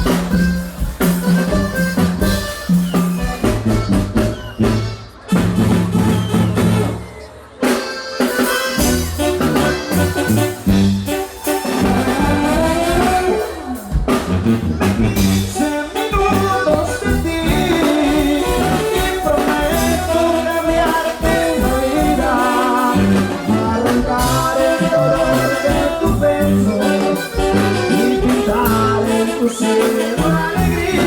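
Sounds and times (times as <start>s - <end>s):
tuba bass line: 0.0s - 7.0s, 7.6s - 31.0s
brass band playing: 0.0s - 31.0s.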